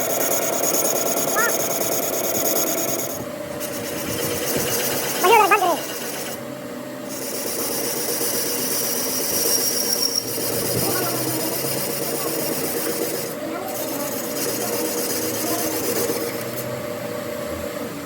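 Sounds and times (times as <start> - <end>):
power tool cutting metal: 0.0 - 6.4, 7.0 - 16.8.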